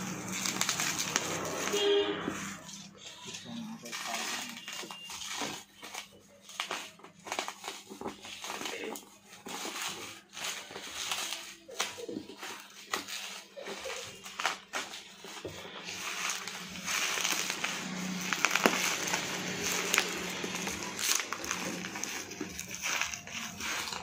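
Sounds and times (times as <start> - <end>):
bubble wrap crinkling: 0.0 - 24.0.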